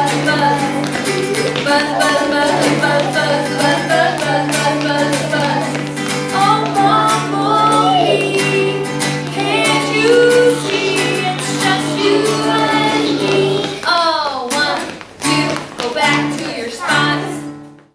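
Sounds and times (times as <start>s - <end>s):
children and woman singing: 0.0s - 17.6s
acoustic guitar strumming: 0.0s - 17.8s.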